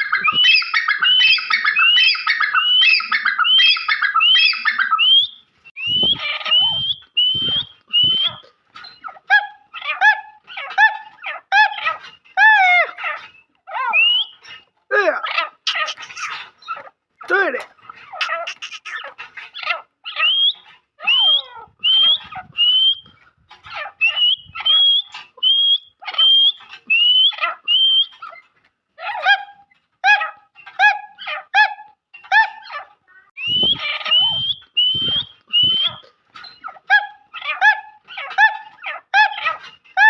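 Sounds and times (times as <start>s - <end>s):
francolins calling: 0.0s - 16.9s, 17.9s - 28.4s, 33.4s - 40.0s.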